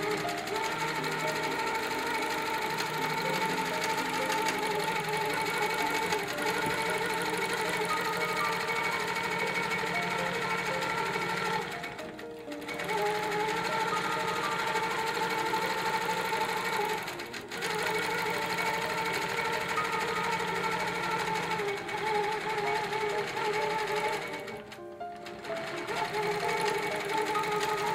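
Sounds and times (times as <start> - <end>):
background music: 0.0 - 27.9
quilting machine needle rattle: 0.0 - 27.9.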